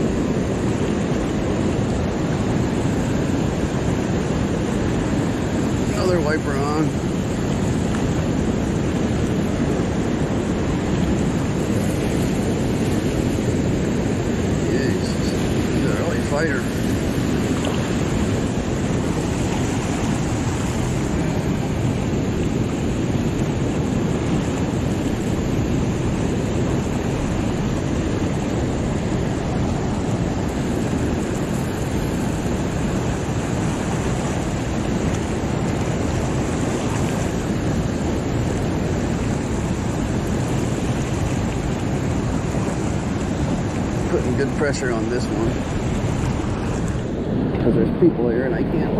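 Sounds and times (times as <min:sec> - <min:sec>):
whitewater rushing: 0:00.0 - 0:48.9.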